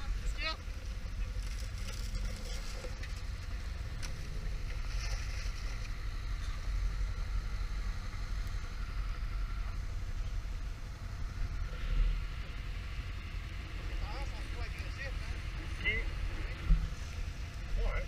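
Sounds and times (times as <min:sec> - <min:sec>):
off-road vehicle engines rumbling: 0:00.0 - 0:18.0.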